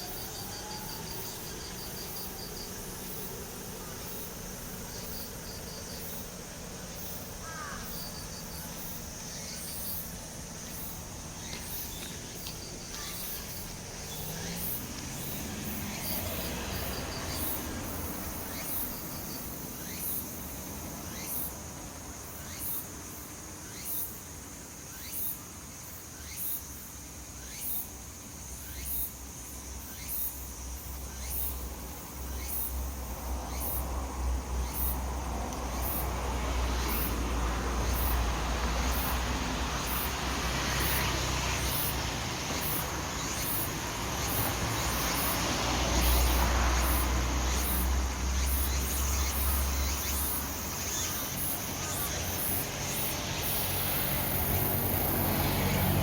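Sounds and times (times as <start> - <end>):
pulsing insect call: 0.0 - 21.6, 28.5 - 56.0
cicadas shrilling: 0.0 - 56.0.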